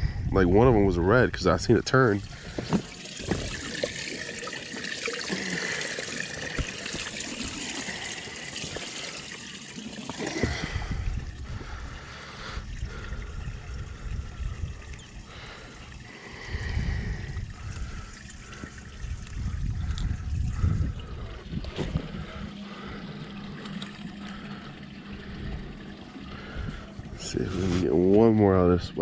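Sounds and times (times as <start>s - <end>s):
water trickling: 1.6s - 29.0s.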